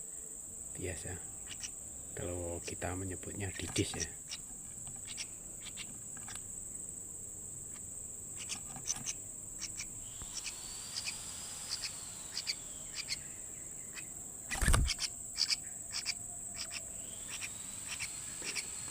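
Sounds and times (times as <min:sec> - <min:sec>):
insects droning: 0:00.0 - 0:18.9.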